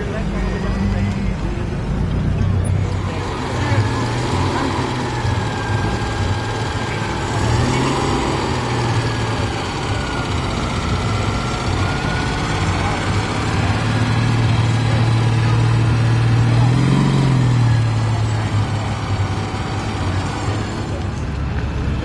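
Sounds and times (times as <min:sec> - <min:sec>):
car engine at low revs: 0:00.0 - 0:22.0
voices in background: 0:00.0 - 0:22.0.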